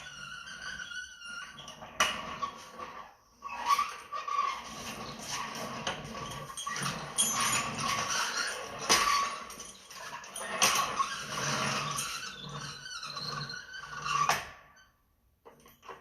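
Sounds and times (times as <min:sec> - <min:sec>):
floor jack pumping squeaks: 0:00.0 - 0:14.9.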